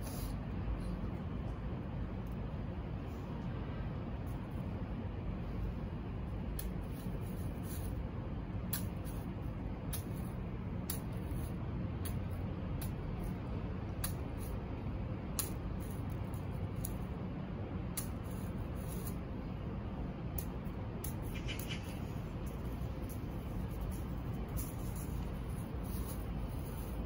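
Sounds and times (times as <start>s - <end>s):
low rumble of background noise: 0.0s - 27.0s.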